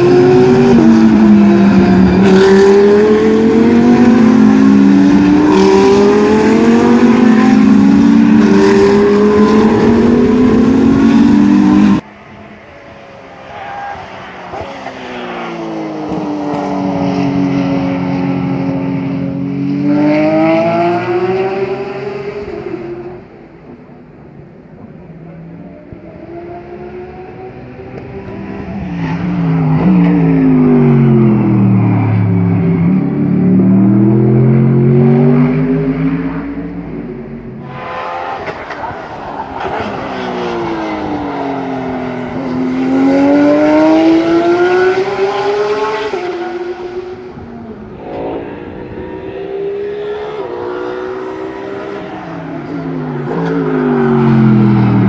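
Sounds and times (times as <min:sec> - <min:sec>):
race car engine passing: 0:00.0 - 0:23.4, 0:25.3 - 0:55.0.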